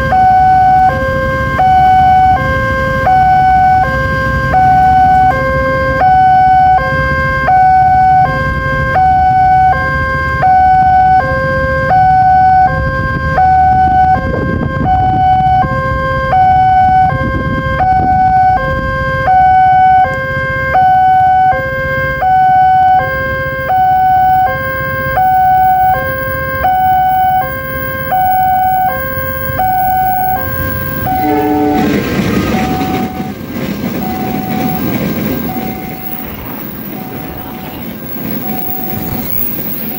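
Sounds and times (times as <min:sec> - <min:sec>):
train approaching: 0:00.0 - 0:39.9
two-tone crossing alarm: 0:00.0 - 0:39.9.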